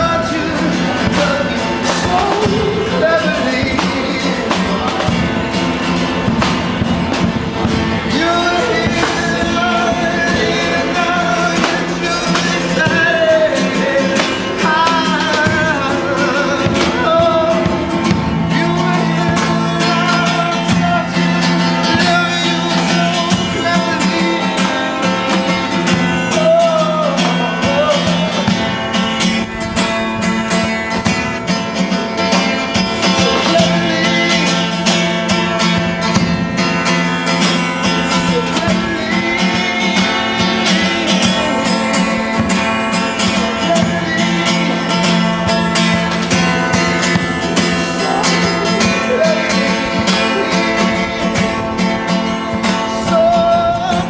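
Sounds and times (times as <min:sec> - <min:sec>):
person singing: 0:00.0 - 0:06.8, 0:07.9 - 0:29.2, 0:32.2 - 0:54.0
guitar: 0:00.0 - 0:54.0.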